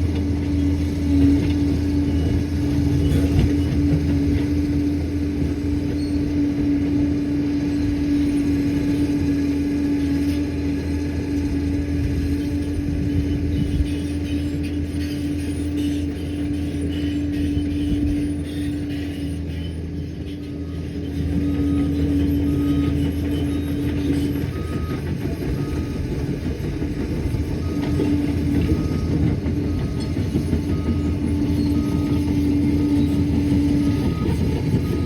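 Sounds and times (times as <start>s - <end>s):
constant whining tone: 0.0s - 35.0s
diesel engine running: 0.0s - 35.0s.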